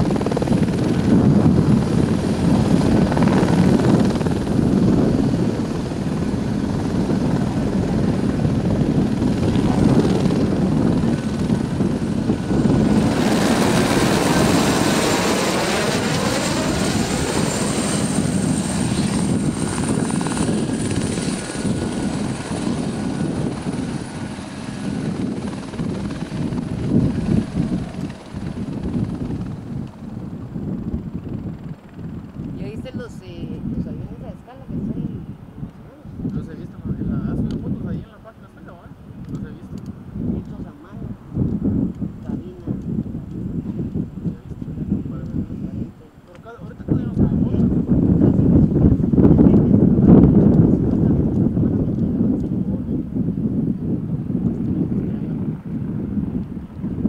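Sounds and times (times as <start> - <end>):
helicopter rotor beat: 0.0 - 57.0
high turbine whine: 0.0 - 57.0.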